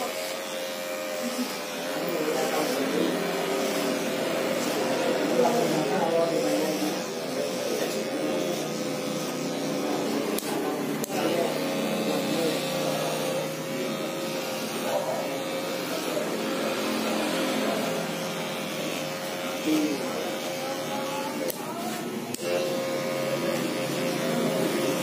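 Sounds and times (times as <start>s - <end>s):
electric hair clipper buzzing: 0.0s - 25.0s.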